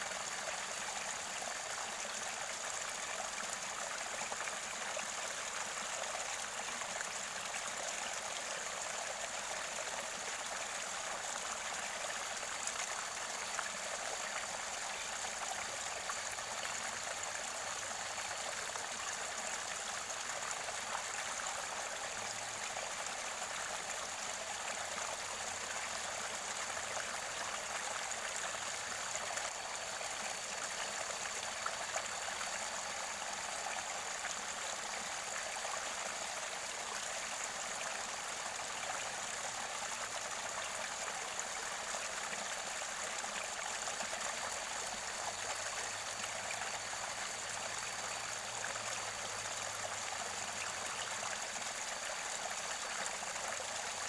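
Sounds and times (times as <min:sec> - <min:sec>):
stream water gurgling: 0:00.0 - 0:54.0.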